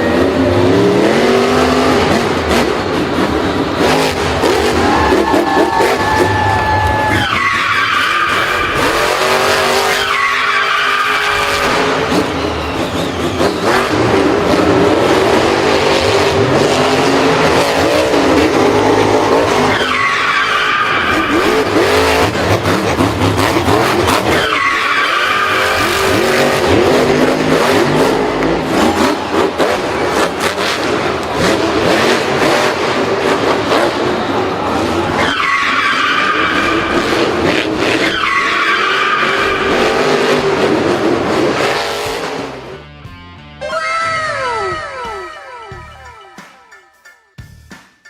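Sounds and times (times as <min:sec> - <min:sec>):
tyres skidding: 0:00.0 - 0:42.9
racing engines revving: 0:00.0 - 0:43.0.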